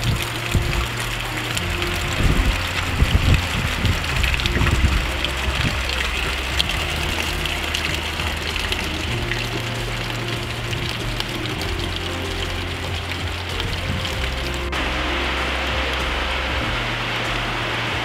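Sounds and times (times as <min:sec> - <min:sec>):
heavy rain: 0:00.0 - 0:18.0
water rushing down a downspout: 0:00.0 - 0:18.0.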